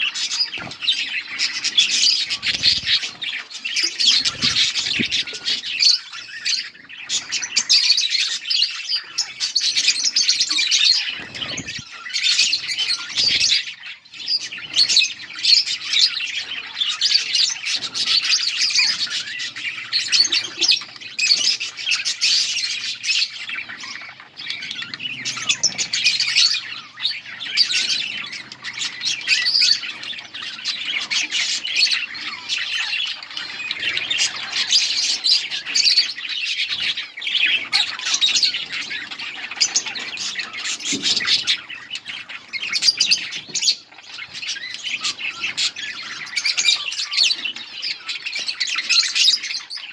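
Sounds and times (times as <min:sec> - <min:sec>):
budgerigars chirping and chattering: 0:00.0 - 0:49.9.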